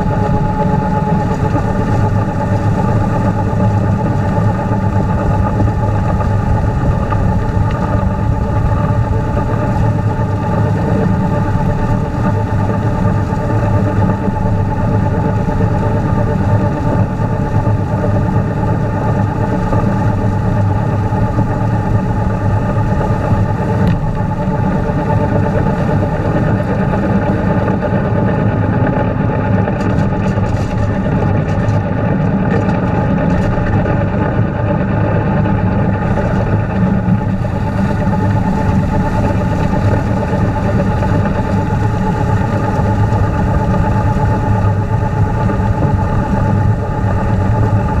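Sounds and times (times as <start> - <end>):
tractor engine running steadily: 0.0 - 48.0.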